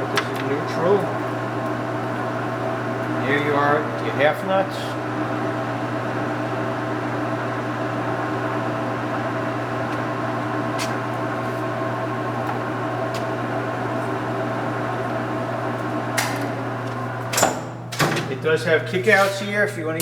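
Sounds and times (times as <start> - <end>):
lathe hum and gear whine: 0.0 - 20.0.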